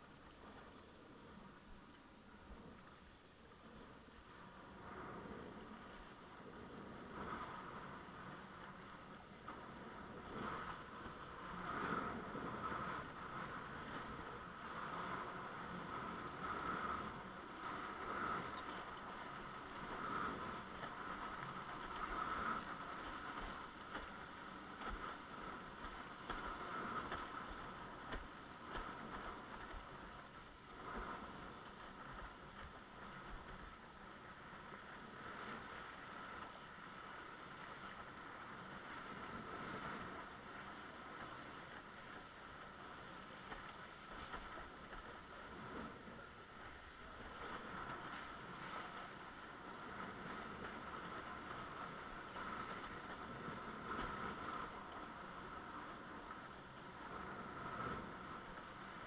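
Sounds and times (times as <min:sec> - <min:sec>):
rush of water and wind: 0:00.0 - 0:59.0.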